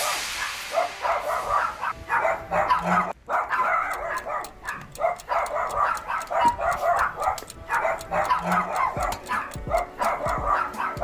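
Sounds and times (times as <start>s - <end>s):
small dogs barking and yapping: 0.0s - 11.0s.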